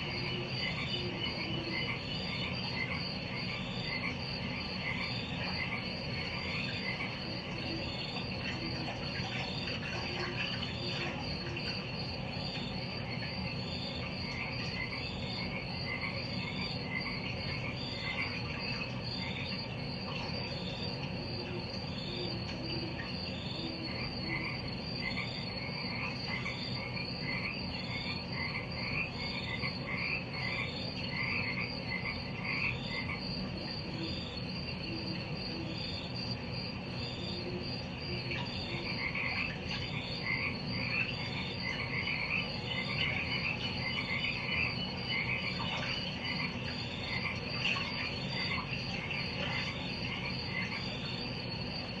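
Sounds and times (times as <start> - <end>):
frogs croaking trills: 0.0 - 52.0
insects chirring: 0.0 - 52.0
low steady hum: 0.0 - 52.0.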